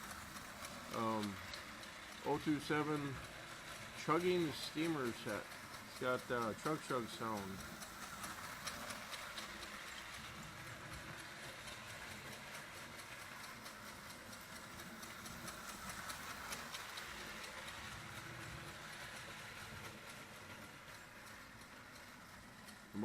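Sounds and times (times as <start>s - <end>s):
motor whir and wheel clatter: 0.0s - 23.0s
toy locomotive chugging: 0.0s - 23.0s.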